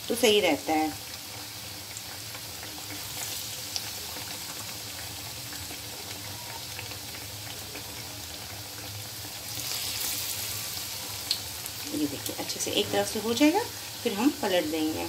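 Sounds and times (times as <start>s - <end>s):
food frying in hot oil: 0.0s - 15.0s.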